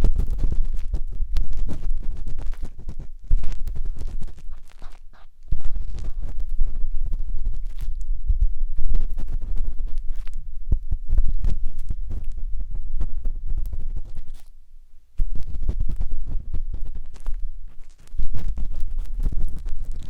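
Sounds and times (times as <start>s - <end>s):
matchstick scratching on microphone: 0.0s - 14.6s, 15.2s - 20.0s.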